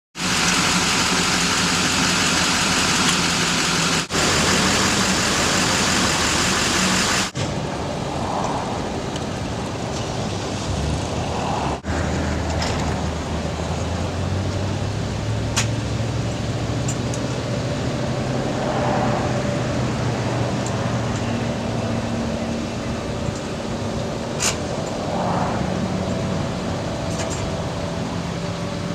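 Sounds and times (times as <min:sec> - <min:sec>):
truck engine running: 0:00.2 - 0:28.9.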